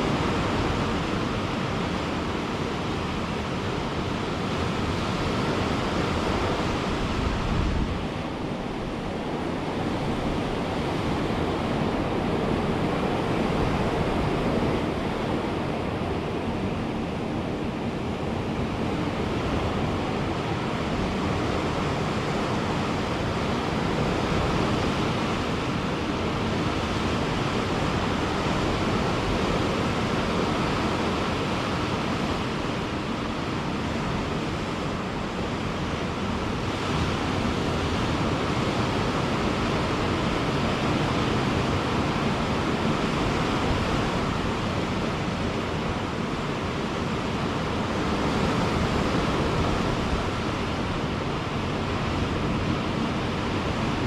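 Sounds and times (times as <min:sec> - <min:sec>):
surf washing on a beach: 0:00.0 - 0:54.0
wind on microphone: 0:00.0 - 0:54.0.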